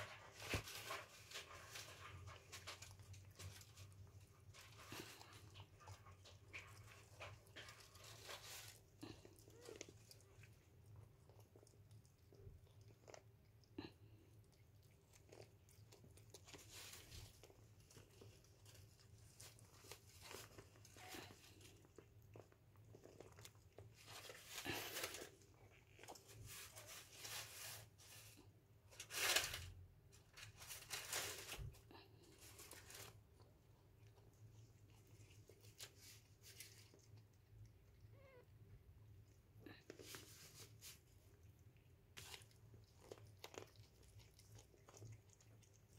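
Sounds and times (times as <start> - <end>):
cat chewing wet crunching: 0.0 - 26.8, 31.9 - 45.9.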